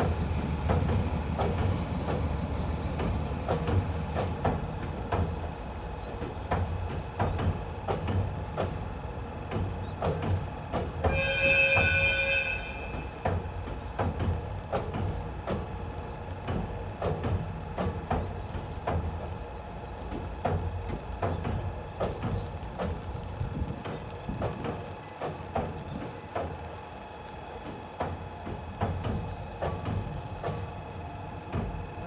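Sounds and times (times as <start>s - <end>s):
train wheels knocking over rail joints: 0.0s - 26.7s, 27.6s - 32.0s
train low rumble: 0.0s - 32.0s.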